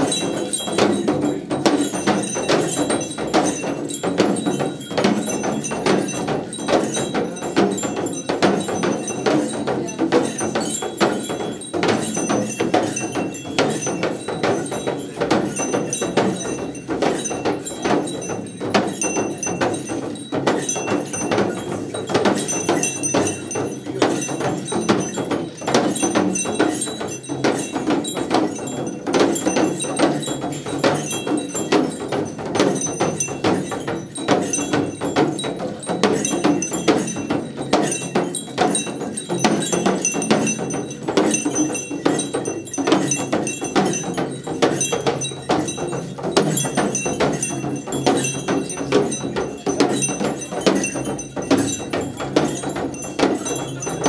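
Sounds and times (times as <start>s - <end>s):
brass bells jangling: 0.0s - 54.0s
frame drums beaten fast: 0.0s - 54.0s.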